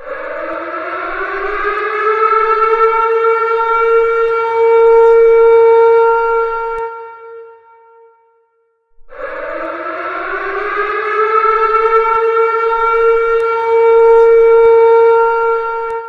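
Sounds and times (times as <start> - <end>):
siren wailing: 0.0 - 7.6, 9.1 - 16.0.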